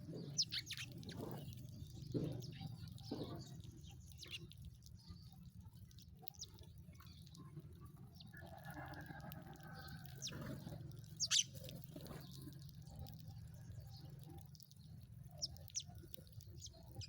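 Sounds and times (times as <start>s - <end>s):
sparrows chirping: 0.0s - 8.3s, 9.7s - 17.0s.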